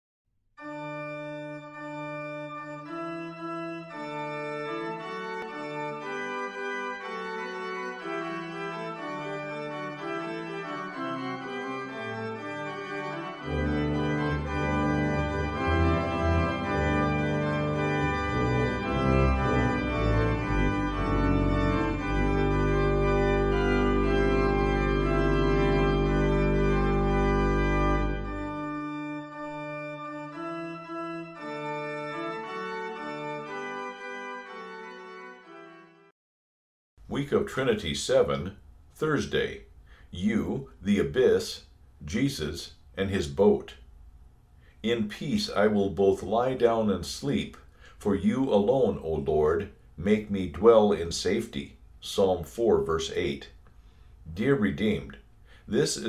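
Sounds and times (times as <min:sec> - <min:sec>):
organ chords: 0:00.6 - 0:36.1, 0:37.0 - 0:44.0, 0:44.7 - 0:56.0.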